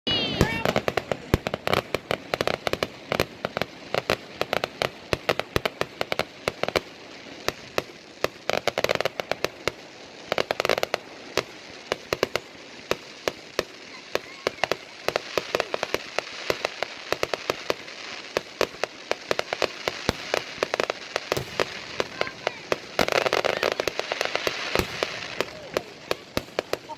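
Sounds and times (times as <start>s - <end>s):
crackling hiss: 0.1s - 26.9s
fireworks cracking and popping: 0.1s - 26.9s.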